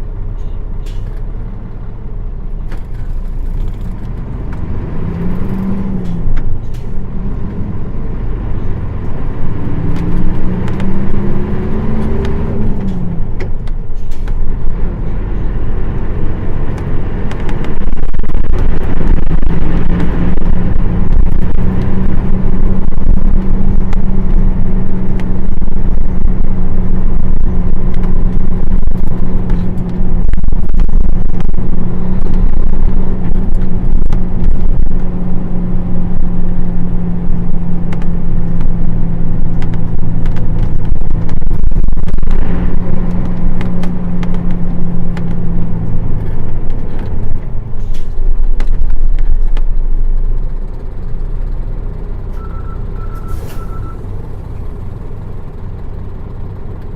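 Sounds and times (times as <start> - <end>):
bus diesel engine accelerating: 0.0 - 56.9.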